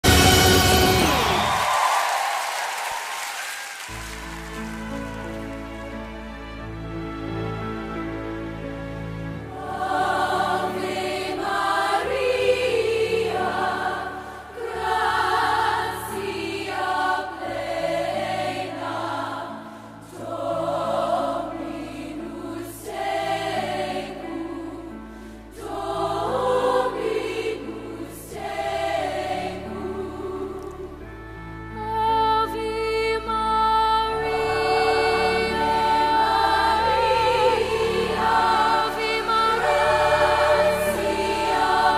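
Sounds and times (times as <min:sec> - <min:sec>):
choir singing: 0:00.0 - 0:02.6, 0:03.8 - 0:41.9.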